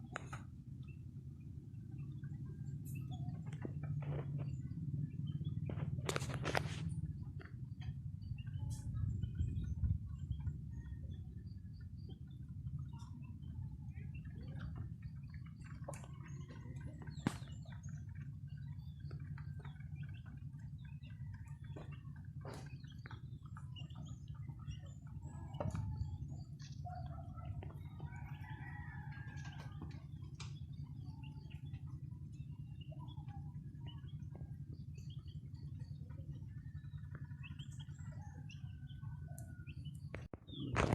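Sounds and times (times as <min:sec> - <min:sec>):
steady low hum: 0:00.0 - 0:40.9
chickens clucking softly: 0:01.9 - 0:40.9.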